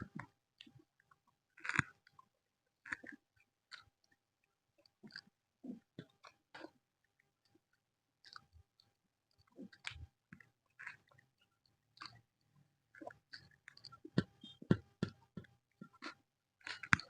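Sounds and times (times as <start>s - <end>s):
chewing soft bread: 0.0s - 17.0s.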